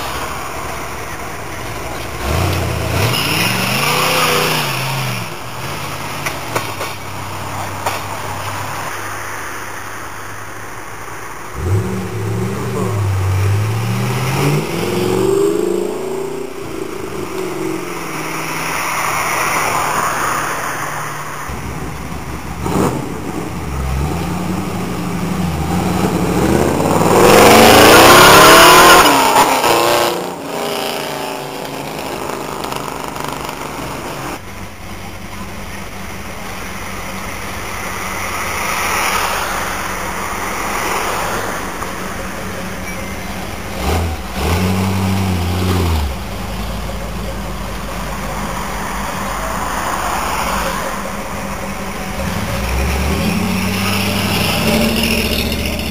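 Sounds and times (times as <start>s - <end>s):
car engines revving: 0.0s - 55.9s.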